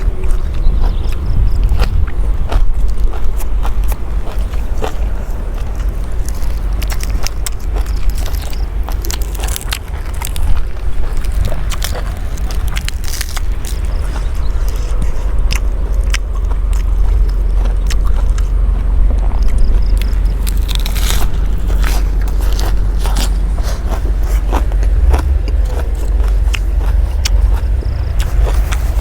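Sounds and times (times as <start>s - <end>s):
chewing crisp food: 0.0s - 29.0s
steady low rumble: 0.0s - 29.0s.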